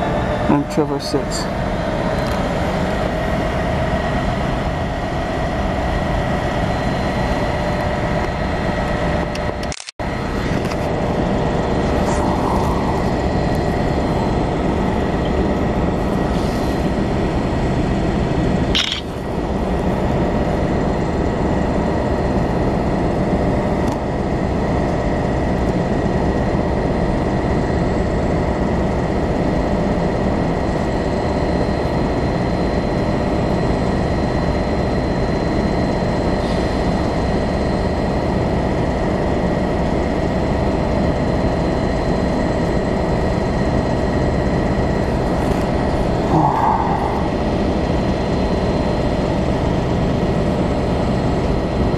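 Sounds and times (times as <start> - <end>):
train drone with high whine: 0.0 - 51.9.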